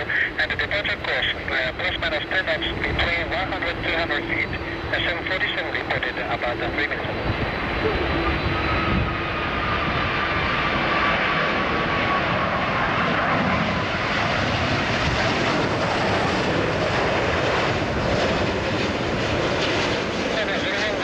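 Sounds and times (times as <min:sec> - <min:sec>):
faint jet engine whine: 0:00.0 - 0:21.0
jet engines roaring: 0:00.0 - 0:21.0.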